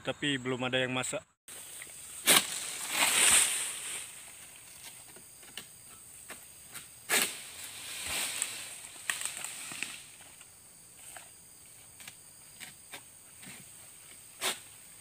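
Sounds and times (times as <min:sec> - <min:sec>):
palm fronds rasping and rustling: 0:01.5 - 0:15.0.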